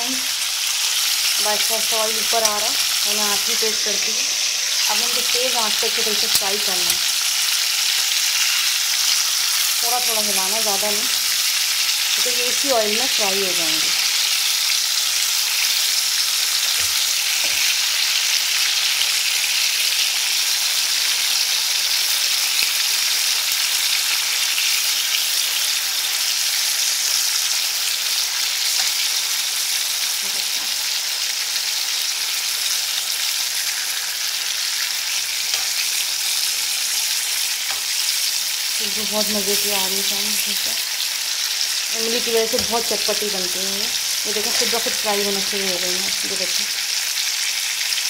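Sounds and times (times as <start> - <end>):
chillies sizzling in oil: 0.0 - 48.0.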